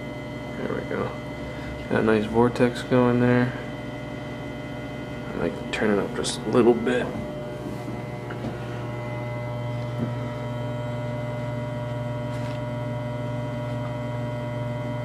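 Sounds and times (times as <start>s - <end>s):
electric mixer motor humming: 0.0s - 15.0s.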